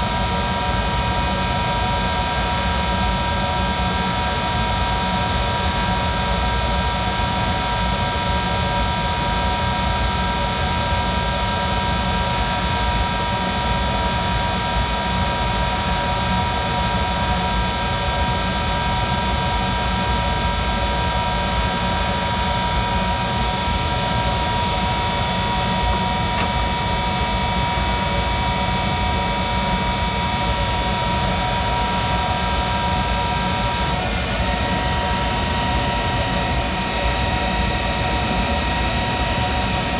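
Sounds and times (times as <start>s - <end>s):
lathe running with a whine: 0.1s - 39.9s.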